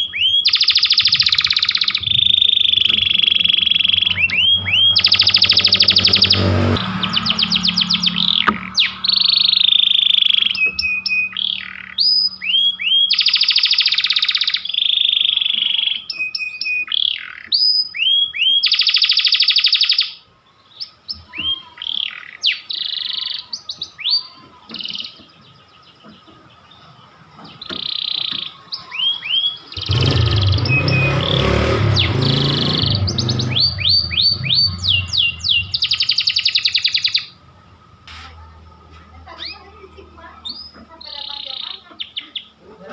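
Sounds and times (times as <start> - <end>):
canary singing trills and chirps: 0.0 - 37.9, 39.3 - 42.9.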